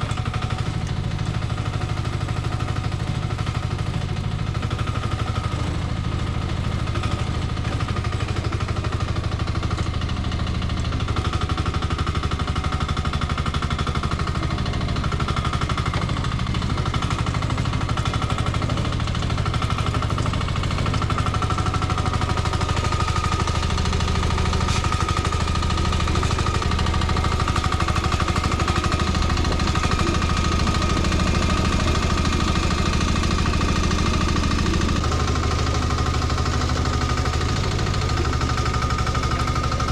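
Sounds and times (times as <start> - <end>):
small excavator engine chugging: 0.0 - 39.9.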